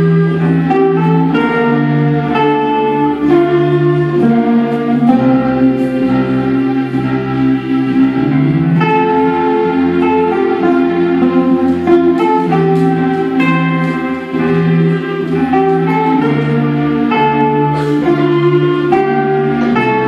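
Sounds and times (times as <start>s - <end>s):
wind band playing chords: 0.0s - 20.0s.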